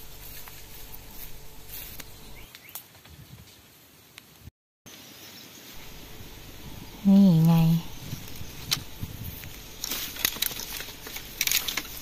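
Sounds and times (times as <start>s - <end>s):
rustling through dry bamboo litter: 0.0s - 4.4s, 5.6s - 12.0s
faint outdoor hiss: 0.0s - 12.0s.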